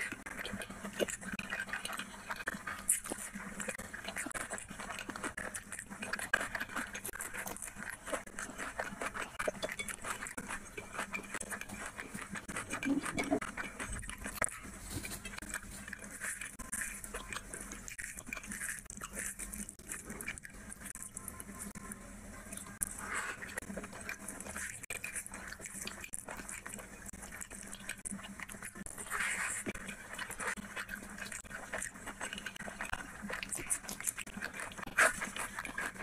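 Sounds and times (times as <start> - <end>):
wet chewing and lip smacking: 0.0 - 36.0.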